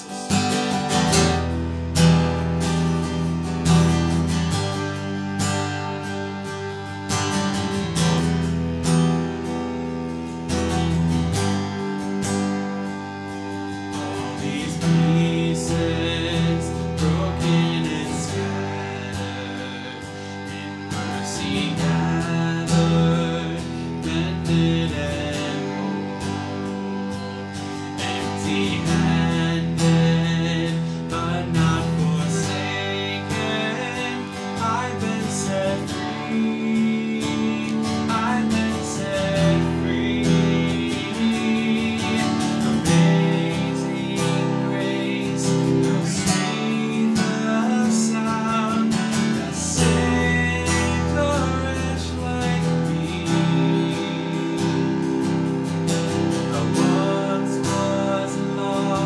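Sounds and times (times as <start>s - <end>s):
man singing: 0.0s - 6.7s, 13.9s - 59.0s
acoustic guitar strumming: 0.0s - 59.0s.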